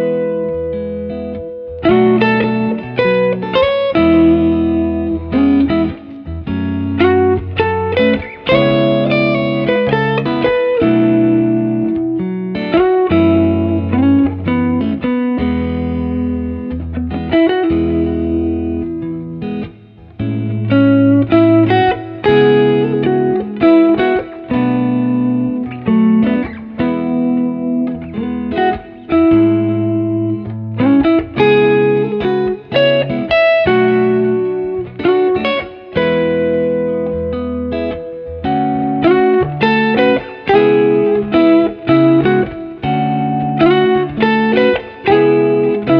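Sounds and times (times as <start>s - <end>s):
guitar background music: 0.0s - 45.9s.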